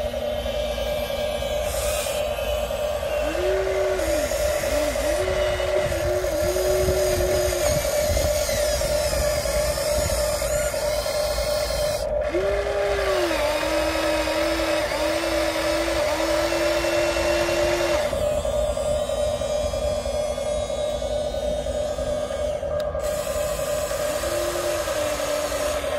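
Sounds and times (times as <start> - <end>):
constant higher hum: 0.0 - 25.9
small electric motors whining: 0.0 - 25.9.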